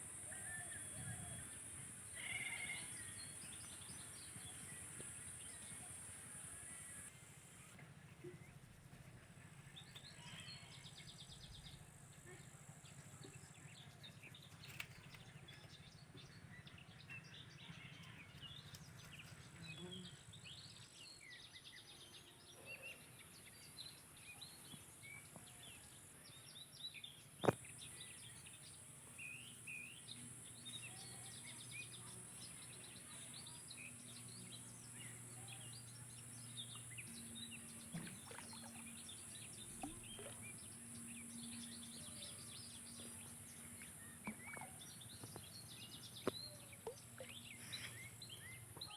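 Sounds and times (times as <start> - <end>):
small birds chirping: 9.7 - 48.9.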